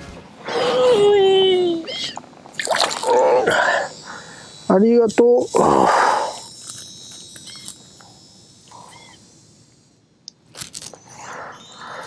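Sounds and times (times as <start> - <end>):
high-pitched wildlife tones: 0.2 - 12.0.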